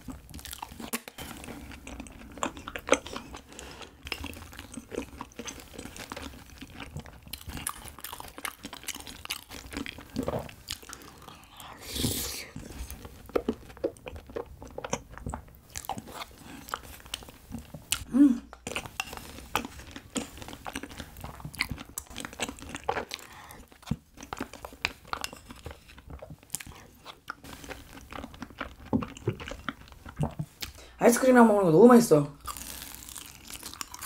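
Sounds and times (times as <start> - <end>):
chewing and biting: 0.0 - 11.7, 12.5 - 30.8, 32.4 - 34.0.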